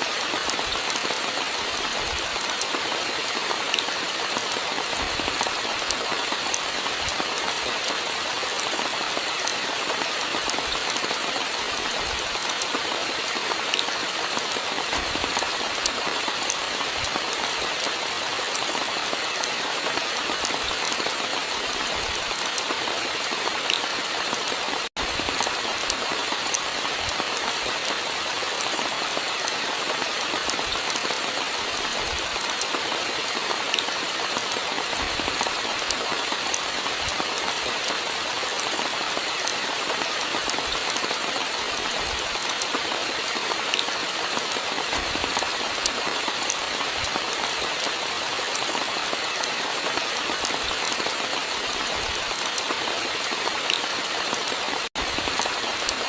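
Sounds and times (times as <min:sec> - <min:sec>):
steady rain hiss: 0:00.0 - 0:56.0
raindrops ticking: 0:00.1 - 0:56.0.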